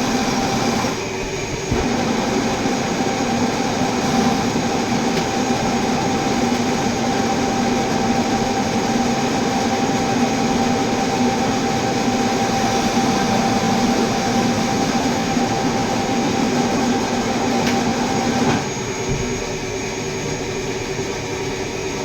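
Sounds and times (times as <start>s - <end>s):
metal lathe machining steel: 0.0s - 19.0s
constant high machining tone: 0.0s - 22.0s.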